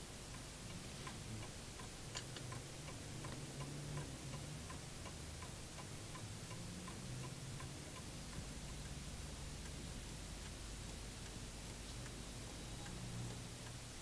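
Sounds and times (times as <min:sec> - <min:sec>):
faint low hum: 0:00.0 - 0:14.0
mechanical clock ticking: 0:00.3 - 0:14.0.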